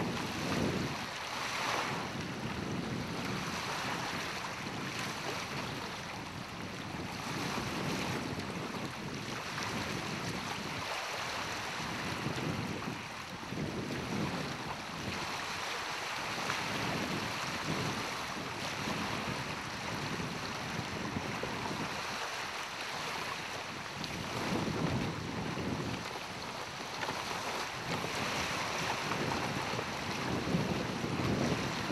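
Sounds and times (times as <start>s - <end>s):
waves lapping on stony shore: 0.0s - 31.9s
wind buffeting microphone: 0.0s - 31.9s.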